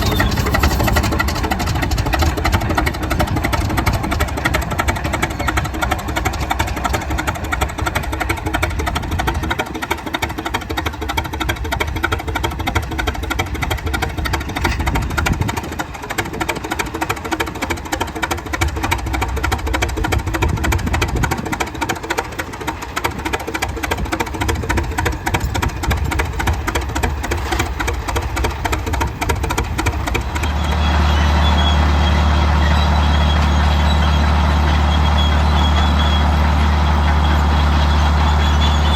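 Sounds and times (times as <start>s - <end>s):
deep engine drone: 0.0s - 38.9s
tractor engine running: 0.0s - 38.9s.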